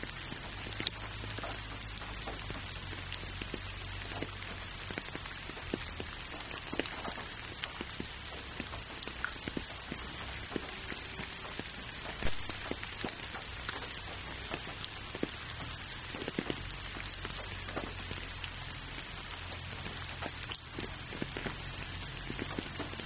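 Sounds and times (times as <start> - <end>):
low steady rumble: 0.0 - 23.0
rain pattering: 0.0 - 23.0.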